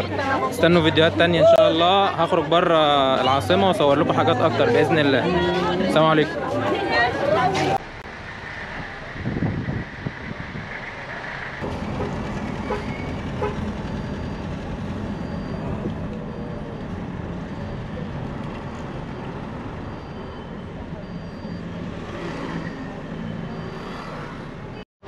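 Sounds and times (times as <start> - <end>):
urban traffic rumble: 0.0 - 24.9.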